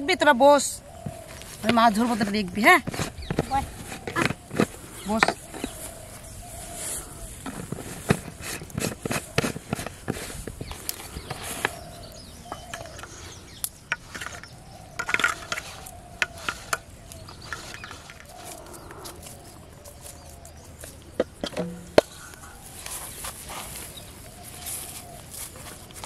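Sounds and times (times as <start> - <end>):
faint birds calling: 0.0 - 26.0.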